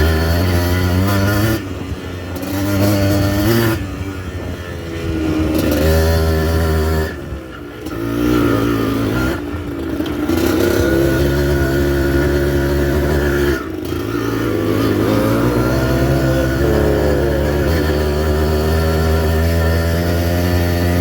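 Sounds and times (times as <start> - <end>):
motorcycle engine under throttle: 0.0 - 21.0.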